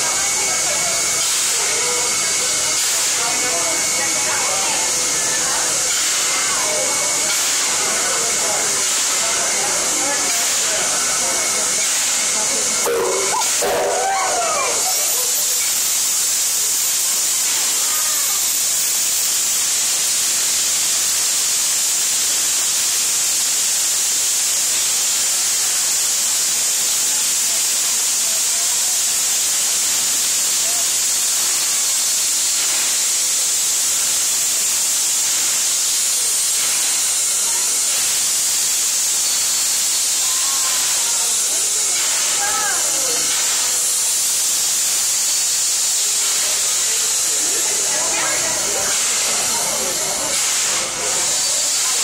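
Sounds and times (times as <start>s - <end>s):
steam locomotive hissing steam: 0.0s - 52.0s.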